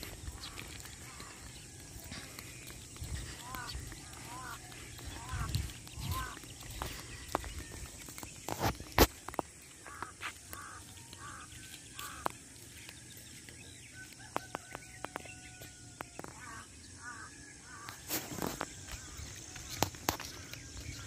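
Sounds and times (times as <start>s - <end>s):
crows cawing: 0.0s - 8.0s, 9.4s - 12.7s, 14.3s - 21.0s.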